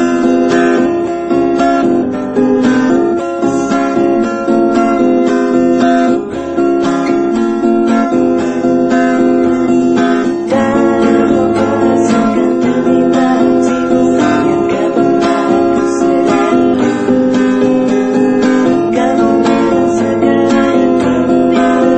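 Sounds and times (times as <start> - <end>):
acoustic guitar strumming chords: 0.0 - 21.9.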